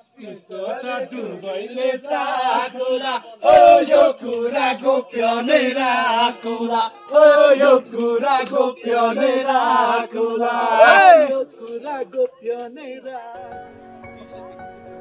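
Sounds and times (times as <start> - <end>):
men singing a chant: 0.0 - 13.4.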